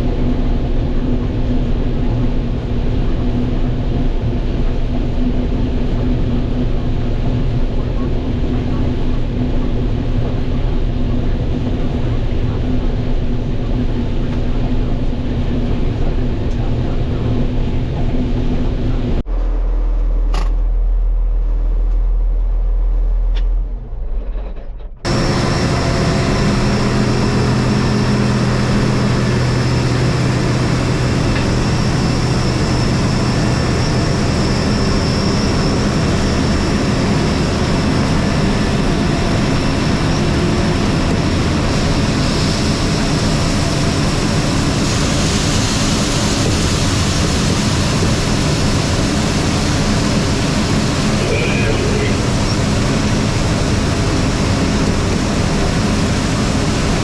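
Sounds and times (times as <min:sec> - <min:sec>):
combine harvester running: 0:00.0 - 0:57.0
deep low rumble: 0:00.0 - 0:57.0
high machine whine: 0:00.0 - 0:57.0.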